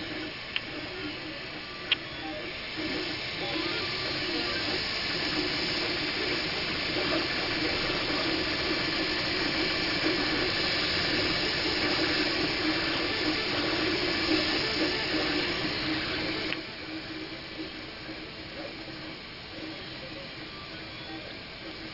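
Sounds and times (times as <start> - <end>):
three d printer whirring: 0.0 - 21.9.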